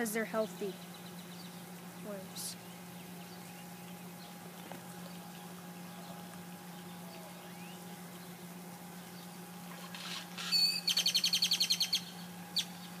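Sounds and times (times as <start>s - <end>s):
songbird calling and trilling: 0.0s - 4.4s, 5.0s - 8.4s, 10.0s - 13.0s
steady low hum: 0.0s - 13.0s.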